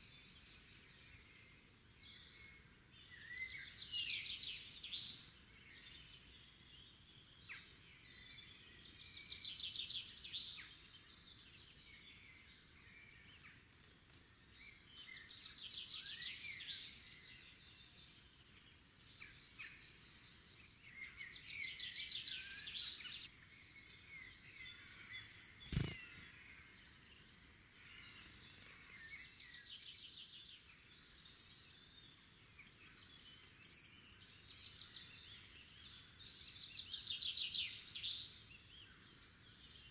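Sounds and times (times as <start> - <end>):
faint outdoor hiss: 0.0 - 39.9
songbirds singing: 0.0 - 39.9.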